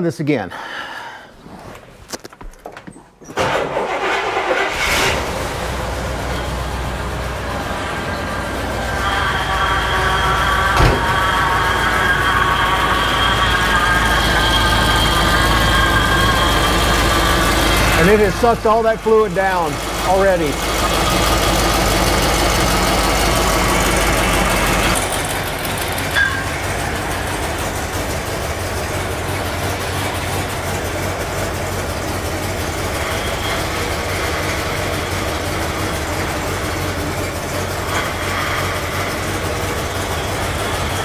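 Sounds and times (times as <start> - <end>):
car engine idling: 3.4 - 41.0.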